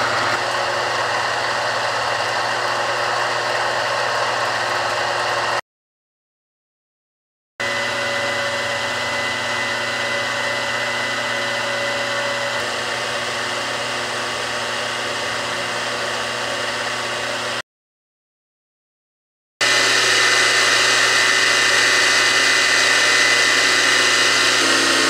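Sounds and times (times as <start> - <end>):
milling machine motor whine: 0.0 - 5.6, 7.6 - 17.6, 19.6 - 25.0.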